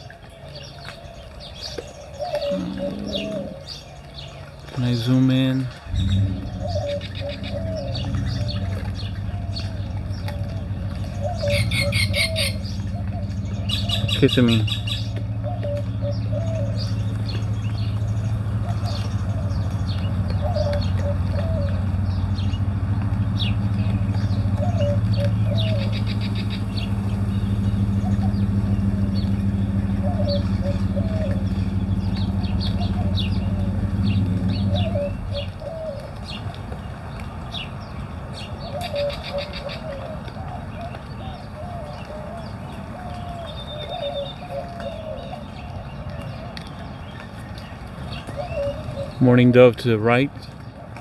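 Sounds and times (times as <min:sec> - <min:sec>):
low mechanical hum: 0:00.0 - 0:49.2
birds chirping: 0:00.0 - 0:51.0
birds cooing: 0:00.0 - 0:51.0.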